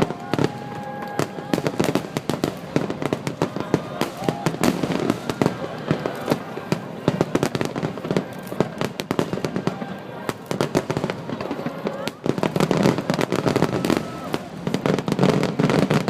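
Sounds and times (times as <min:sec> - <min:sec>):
fireworks crackling bangs: 0:00.0 - 0:16.0.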